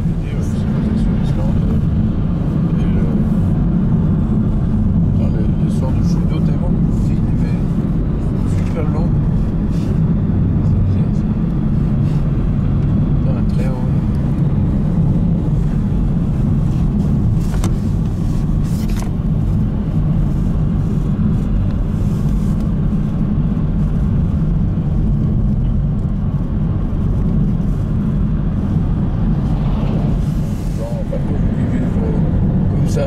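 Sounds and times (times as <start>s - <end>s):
car cabin road and engine rumble: 0.0s - 33.0s.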